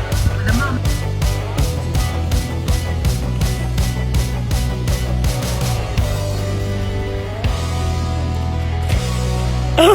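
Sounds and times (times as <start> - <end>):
rock drum beat: 0.0 - 8.0
distorted guitar: 0.0 - 9.7
bass guitar: 0.0 - 9.9.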